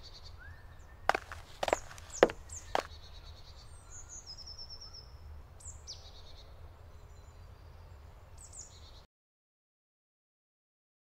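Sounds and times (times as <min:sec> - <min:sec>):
songbirds calling: 0:00.0 - 0:09.1.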